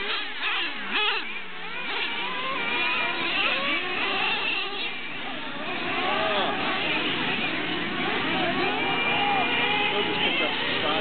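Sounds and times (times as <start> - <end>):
toy truck motors whining: 0.0 - 11.0.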